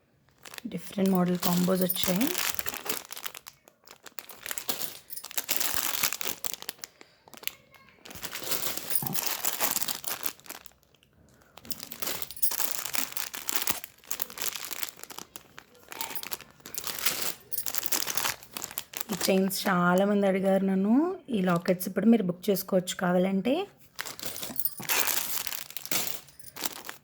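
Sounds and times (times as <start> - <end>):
packaging crinkling and rustling: 0.2 - 20.2, 23.8 - 27.0.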